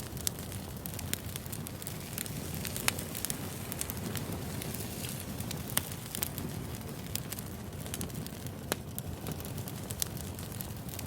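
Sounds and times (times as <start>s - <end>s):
fire crackling and popping: 0.0s - 11.0s
low fire rumble: 0.0s - 11.0s.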